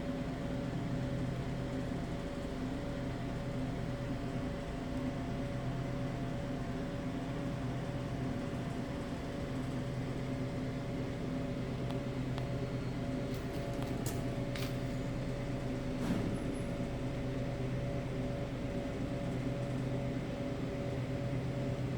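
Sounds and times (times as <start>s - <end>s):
mechanical hum: 0.0s - 21.9s.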